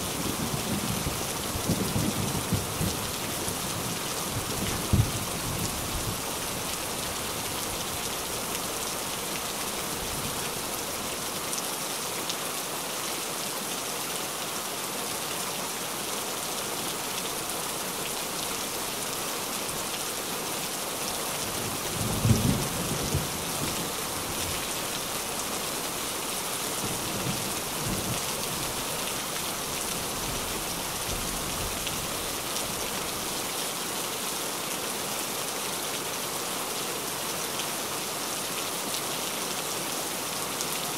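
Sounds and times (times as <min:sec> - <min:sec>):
rain on a tin roof: 0:00.0 - 0:40.9.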